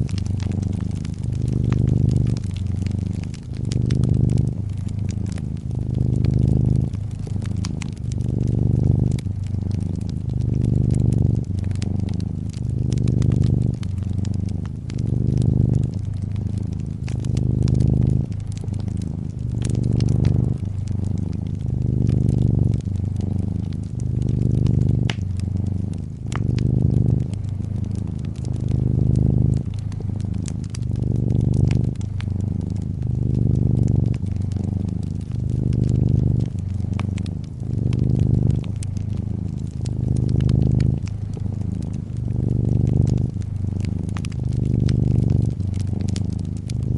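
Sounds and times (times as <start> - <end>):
cat purring: 0.0 - 46.9
wood fire crackling: 0.0 - 46.9.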